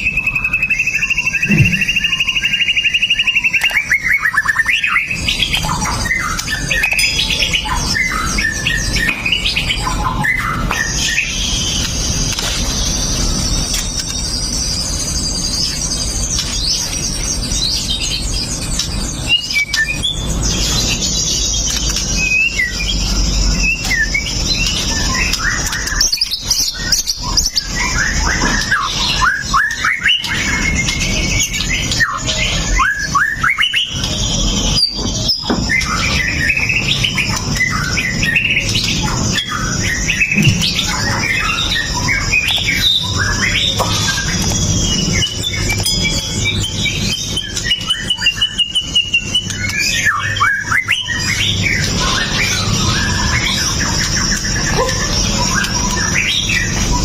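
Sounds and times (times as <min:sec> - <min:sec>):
bird singing whistles and chirps: 0:00.0 - 0:57.0.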